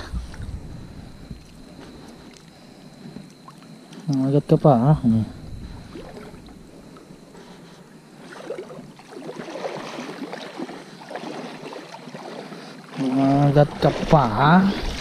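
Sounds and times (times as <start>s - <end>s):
water sloshing from wading: 0.0s - 15.0s.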